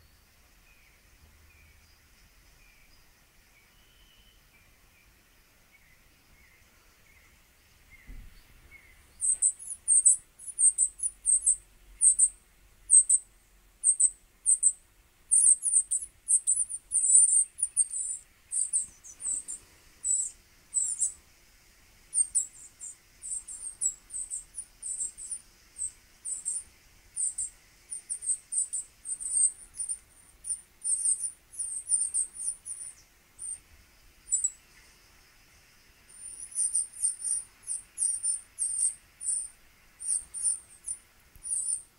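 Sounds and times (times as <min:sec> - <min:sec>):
small bird chirping: 0:00.0 - 0:41.9.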